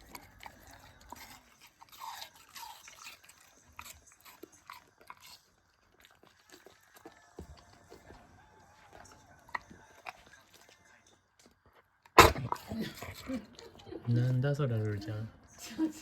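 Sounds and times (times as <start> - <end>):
dog crunching and chewing: 0.0 - 15.6.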